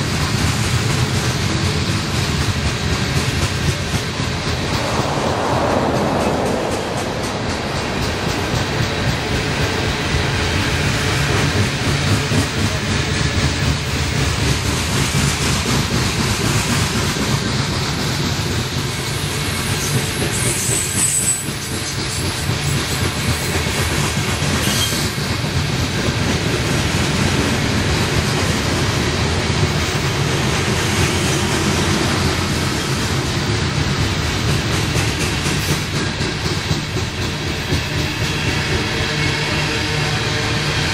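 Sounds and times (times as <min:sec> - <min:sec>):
freight train rolling past: 0:00.2 - 0:40.9.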